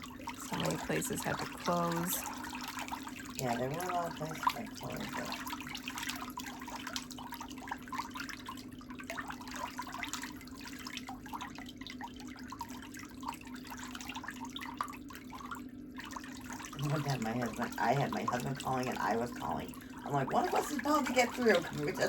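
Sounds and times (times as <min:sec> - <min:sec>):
water trickling and splashing: 0:00.0 - 0:22.0.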